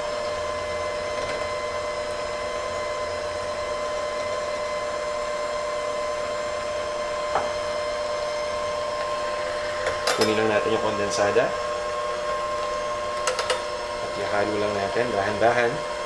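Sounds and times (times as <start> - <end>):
electric hand mixer whining: 0.0 - 16.0.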